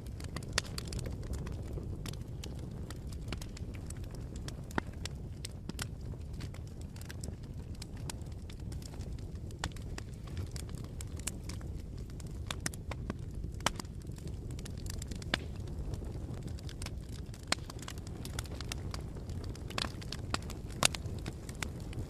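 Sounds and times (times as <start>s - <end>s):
fire crackles and pops: 0.0s - 22.0s
flames rumbling: 0.0s - 22.0s.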